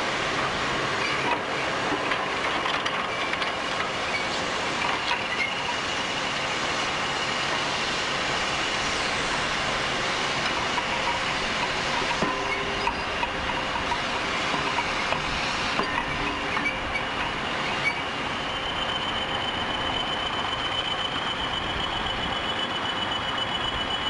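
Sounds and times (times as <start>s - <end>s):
crane mechanical running noise: 0.0s - 24.0s.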